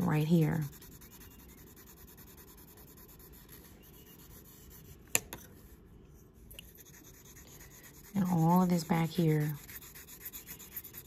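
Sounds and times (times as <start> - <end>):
pencil scratching on paper: 0.0 - 5.8, 6.6 - 11.0.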